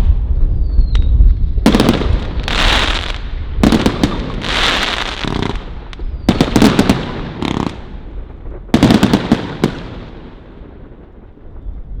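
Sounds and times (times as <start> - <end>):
firework bangs with crackling: 0.8 - 12.0
rolling echo: 1.7 - 12.0.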